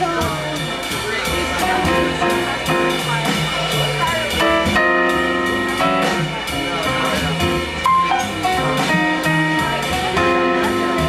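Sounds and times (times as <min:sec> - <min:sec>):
drum kit keeping time: 0:00.0 - 0:11.0
live jazz band playing: 0:00.0 - 0:11.0.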